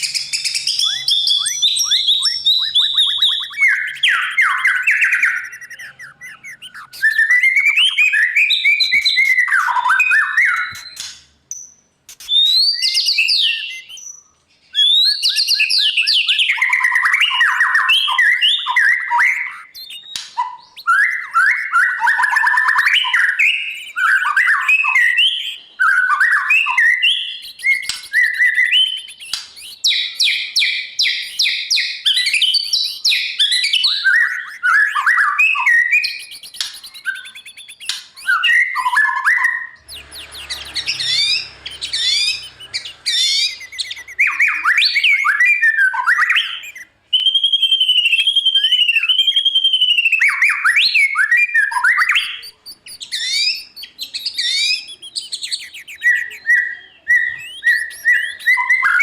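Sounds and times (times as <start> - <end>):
bird singing whistles and trills: 0.0 - 59.0.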